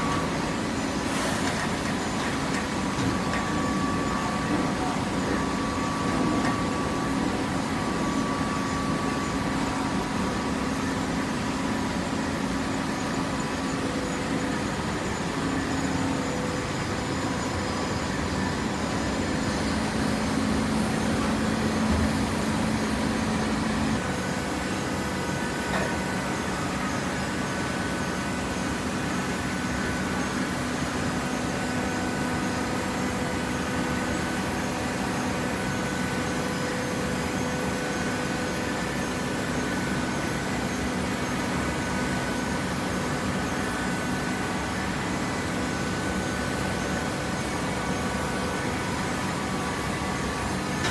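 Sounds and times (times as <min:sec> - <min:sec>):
hydraulic baler machine hum: 0:00.0 - 0:50.9.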